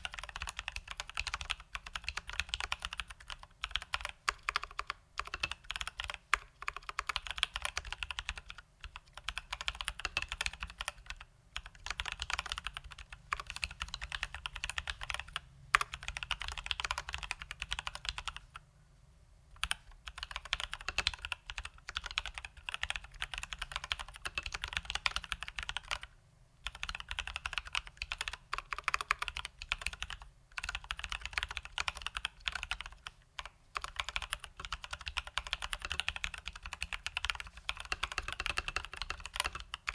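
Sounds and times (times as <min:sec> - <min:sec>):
mechanical keyboard typing: 0:00.0 - 0:18.6, 0:19.5 - 0:39.9.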